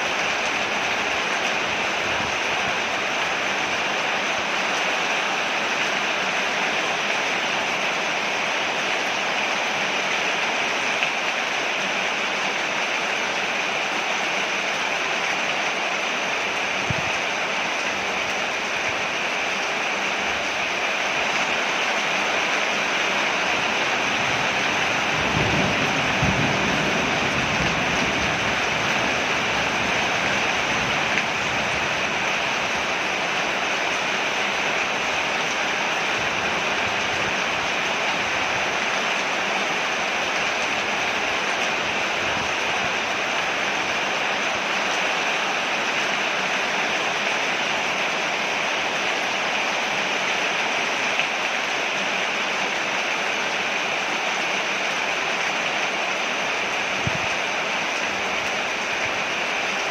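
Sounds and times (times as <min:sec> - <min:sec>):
heavy rain on a porch: 0:00.0 - 0:59.9.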